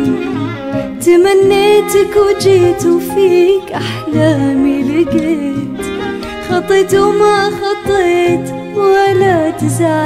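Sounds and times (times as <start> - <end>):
nylon-string guitar: 0.0 - 10.0
violin: 0.0 - 10.0
digital piano: 0.8 - 10.0.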